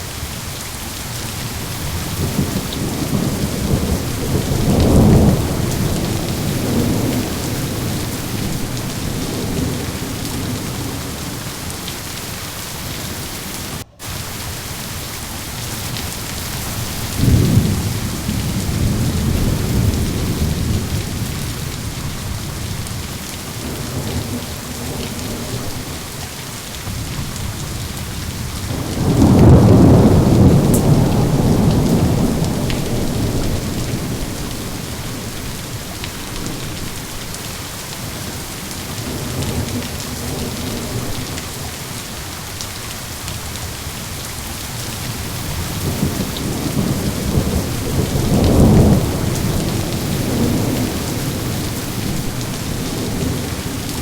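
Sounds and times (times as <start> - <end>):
heavy rain: 0.0 - 54.0
rolling thunder: 1.2 - 14.6, 15.8 - 26.2, 26.9 - 37.5, 44.9 - 54.0.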